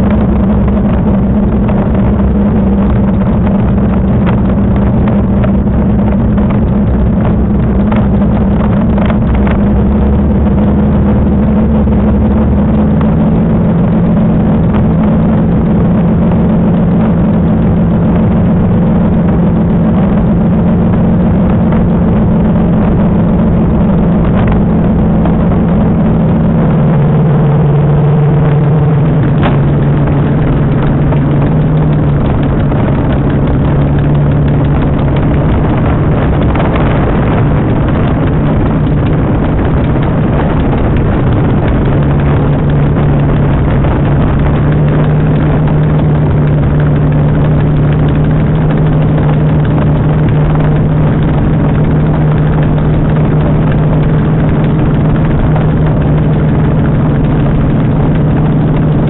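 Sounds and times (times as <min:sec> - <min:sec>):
aircraft engine running at low power: 0:00.0 - 0:59.0
propeller and air noise: 0:00.0 - 0:59.0.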